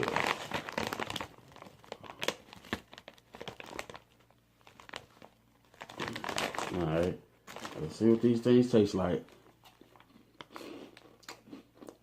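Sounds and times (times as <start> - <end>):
chip bag crinkling: 0.0 - 12.0.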